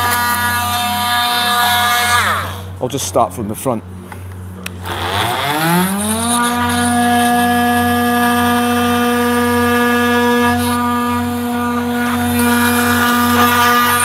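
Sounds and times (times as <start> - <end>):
oscillating multi-tool whine: 0.0 - 2.8, 4.8 - 14.0.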